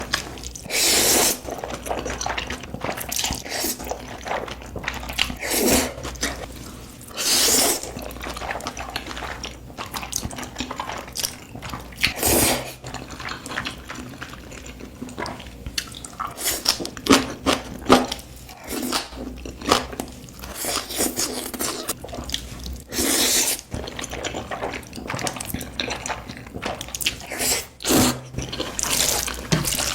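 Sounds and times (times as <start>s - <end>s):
noodles being slurped: 0.0s - 29.9s
wet chewing and mouth clicks: 0.0s - 29.9s.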